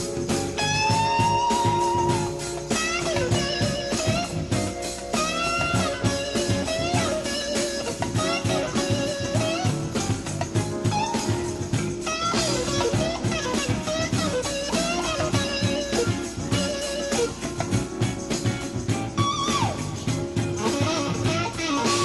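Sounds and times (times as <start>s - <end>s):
drum beat: 0.0s - 22.0s
electric guitar lead: 0.0s - 22.0s.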